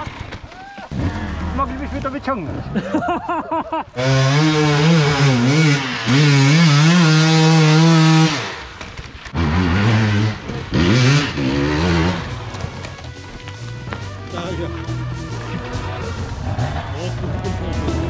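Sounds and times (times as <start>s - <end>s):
dirt bike engine revving: 0.9s - 3.0s, 3.9s - 18.0s.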